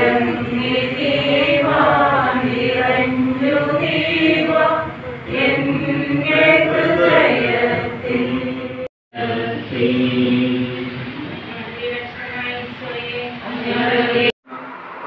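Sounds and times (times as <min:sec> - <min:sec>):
group singing slow prayer song: 0:00.0 - 0:14.7.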